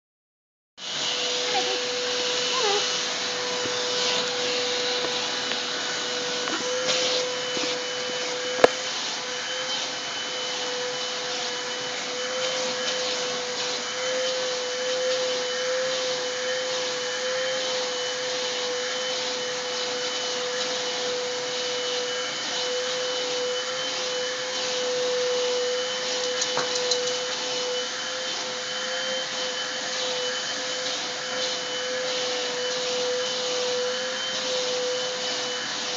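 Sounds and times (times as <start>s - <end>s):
vacuum cleaner whining: 0.8s - 35.9s.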